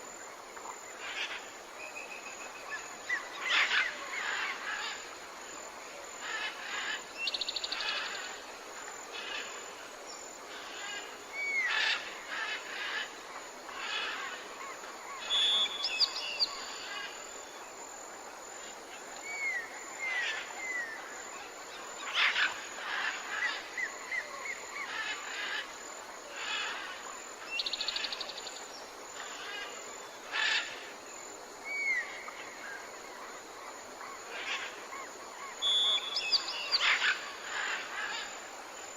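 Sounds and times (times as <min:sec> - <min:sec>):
faint background hiss: 0:00.0 - 0:38.9.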